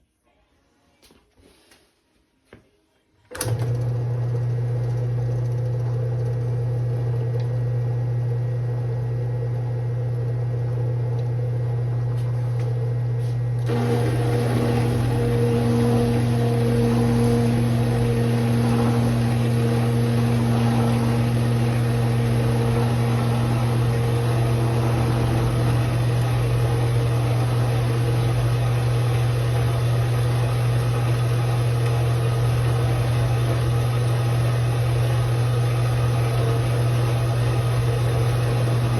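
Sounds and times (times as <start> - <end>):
bandsaw motor hum: 3.4 - 38.9.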